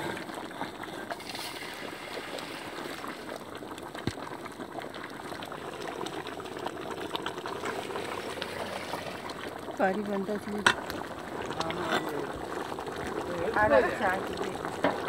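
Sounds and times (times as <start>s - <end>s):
gravy boiling in a metal pot: 0.0s - 15.0s
wood fire crackle: 0.0s - 15.0s.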